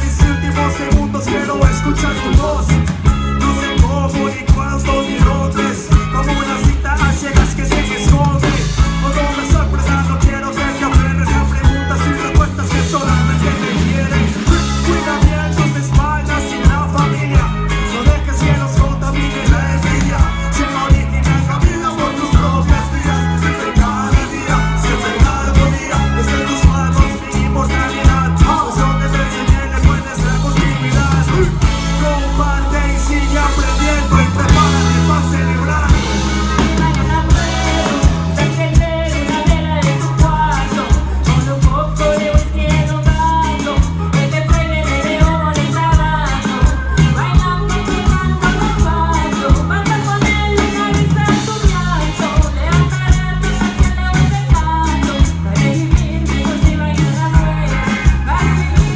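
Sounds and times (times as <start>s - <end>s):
bass line: 0.0s - 58.9s
live band playing latin music: 0.0s - 58.9s
steady drum beat: 0.0s - 58.9s.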